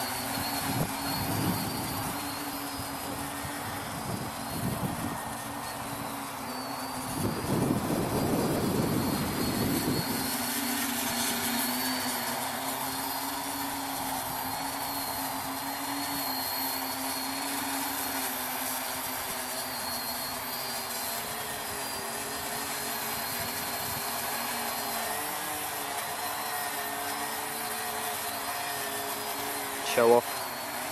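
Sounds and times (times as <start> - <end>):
quadcopter propellers whirring: 0.0 - 30.9.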